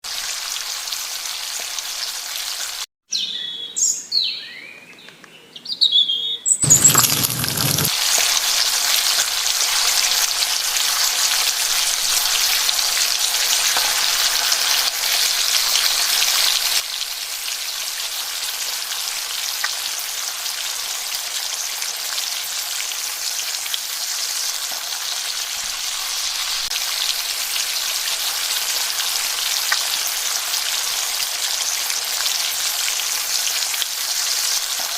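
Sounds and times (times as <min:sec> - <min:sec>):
fish sizzling in oil: 0:00.1 - 0:02.9, 0:06.6 - 0:34.9.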